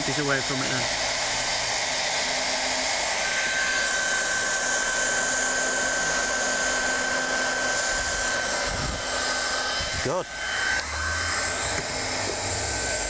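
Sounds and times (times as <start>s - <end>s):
hot-air torch blowing: 0.0s - 13.0s
thin steady whine: 0.0s - 13.0s.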